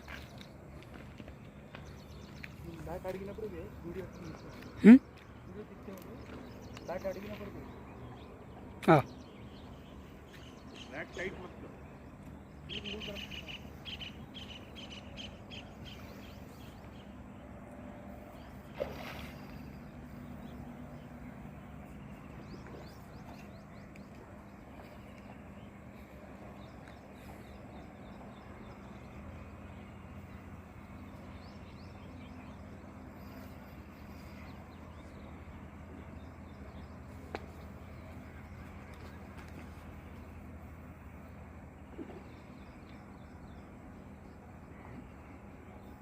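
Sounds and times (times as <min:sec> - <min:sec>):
birds chirping: 0:00.0 - 0:46.0
steady low hum: 0:00.0 - 0:46.0.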